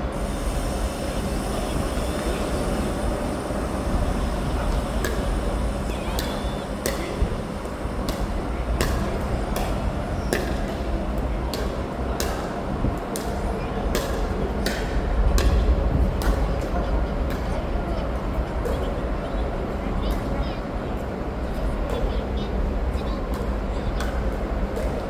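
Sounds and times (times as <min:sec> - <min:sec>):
steady low rumble: 0:00.0 - 0:20.6.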